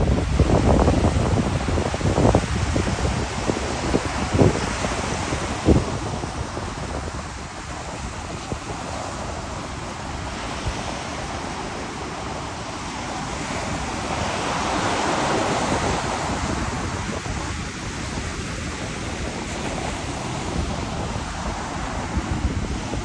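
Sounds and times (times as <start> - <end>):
sea waves washing on shore: 0.0 - 23.0
wind rumbling on microphone: 0.0 - 23.0.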